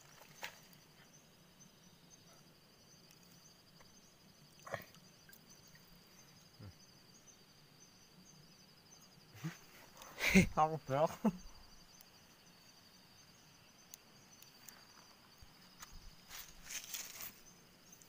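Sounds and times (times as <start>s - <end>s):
pulsing insect trill: 0.0s - 18.0s.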